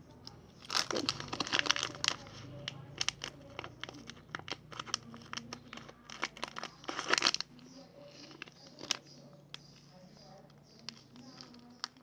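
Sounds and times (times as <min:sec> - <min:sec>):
crinkling plastic packaging: 0:00.1 - 0:12.0.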